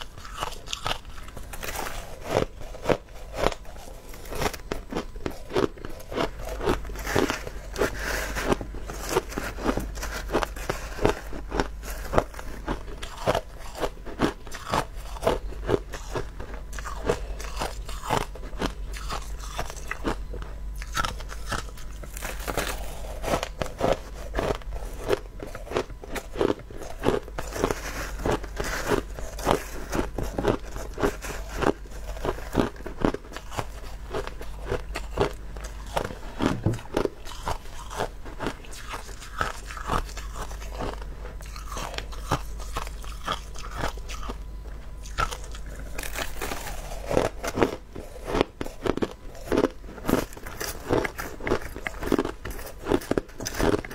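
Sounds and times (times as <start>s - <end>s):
crushed ice being chewed: 0.0s - 53.9s.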